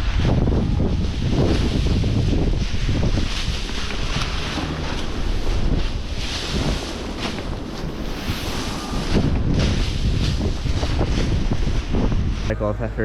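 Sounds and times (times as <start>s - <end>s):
wind buffeting microphone: 0.0s - 12.5s.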